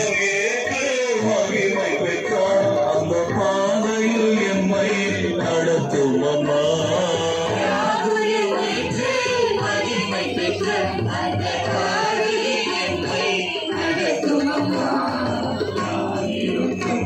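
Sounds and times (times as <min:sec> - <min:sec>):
hymn singing: 0:00.0 - 0:17.0
instrumental accompaniment: 0:00.0 - 0:17.0.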